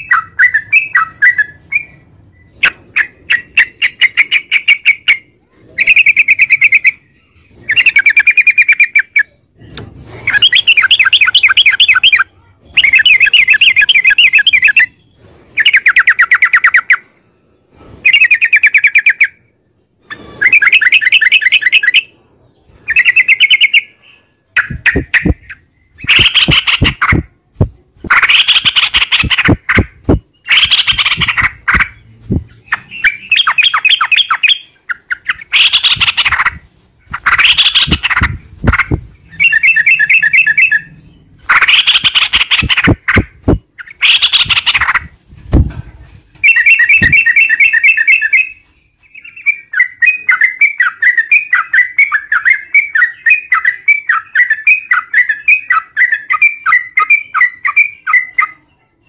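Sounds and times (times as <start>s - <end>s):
bird chattering and trilling: 0.0s - 17.1s, 18.0s - 45.2s, 46.4s - 58.9s.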